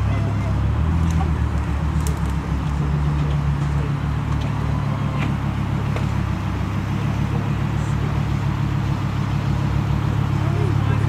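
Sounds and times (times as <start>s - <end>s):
buggy engine running at low revs: 0.0s - 11.0s.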